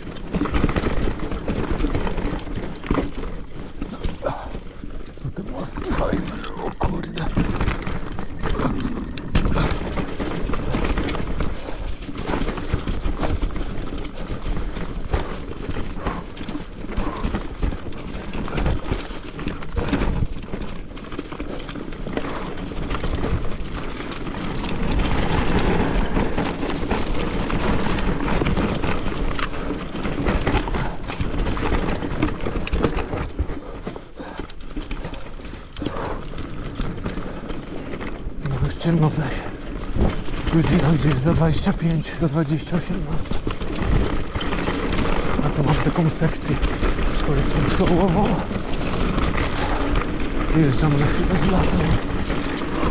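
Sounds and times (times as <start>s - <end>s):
bike knocking and rattling: 0.0s - 52.9s
bike tyres rolling over dirt: 0.0s - 52.9s.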